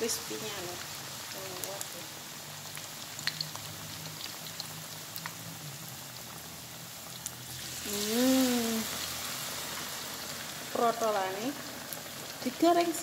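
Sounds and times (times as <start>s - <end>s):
deep-frying sizzle and crackles: 0.0s - 13.0s.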